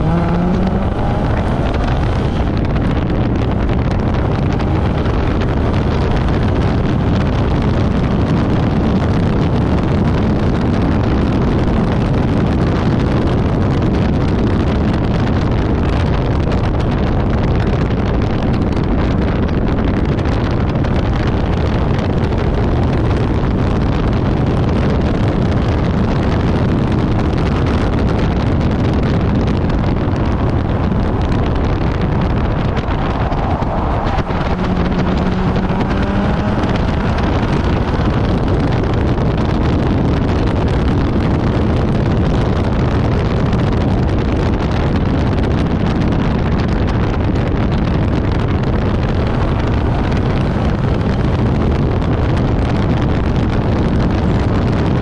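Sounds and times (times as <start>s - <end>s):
car engine running hard: 0.0s - 55.0s
road rumble: 0.0s - 55.0s
wind buffeting: 0.0s - 55.0s.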